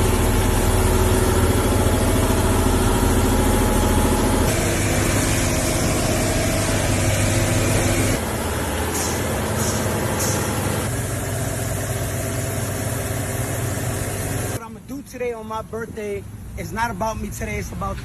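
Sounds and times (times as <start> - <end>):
vehicle engine idling: 0.0 - 14.6.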